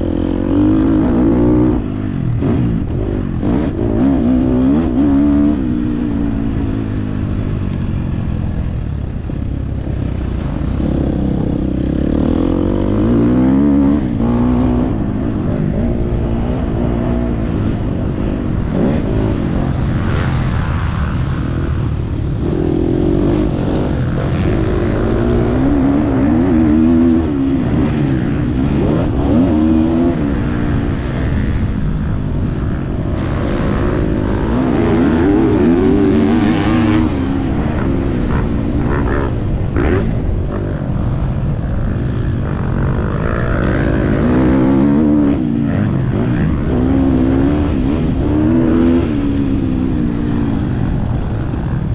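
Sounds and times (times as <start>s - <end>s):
motocross bike engine revving: 0.0s - 7.5s, 9.8s - 51.9s.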